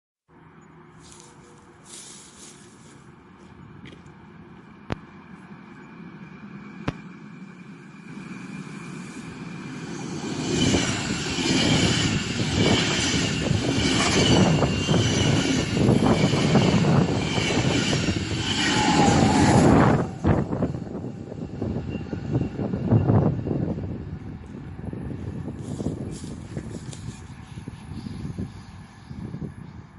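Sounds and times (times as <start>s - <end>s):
train passing at speed: 0.3s - 29.9s.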